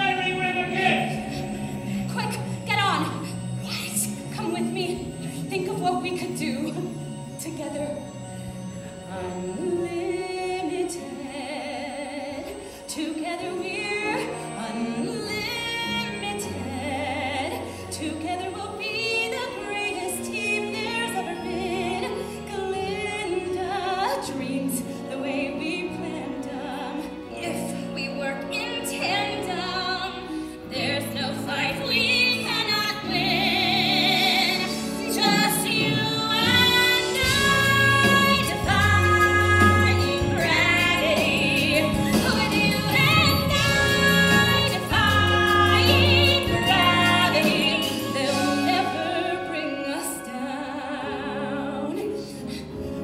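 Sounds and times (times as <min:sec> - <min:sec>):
theatre orchestra: 0:00.0 - 0:53.0
women singing with vibrato: 0:09.1 - 0:53.0.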